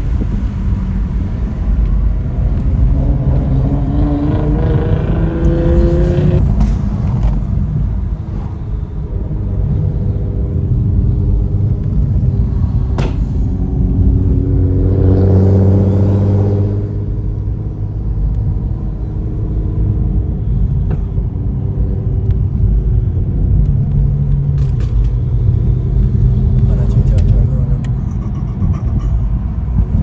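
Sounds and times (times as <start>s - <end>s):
road rumble: 0.0s - 30.0s
sports car engine: 0.0s - 30.0s.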